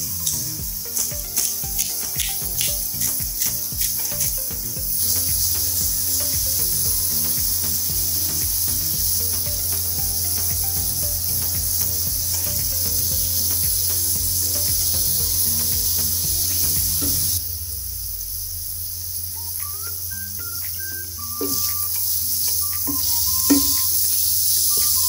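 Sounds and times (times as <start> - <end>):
minced meat sizzling in a pan: 0.0 - 25.0.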